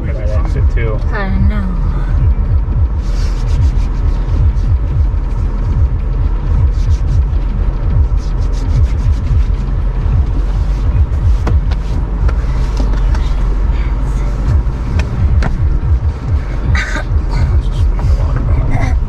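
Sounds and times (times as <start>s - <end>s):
off-road vehicle engine: 0.0s - 19.0s.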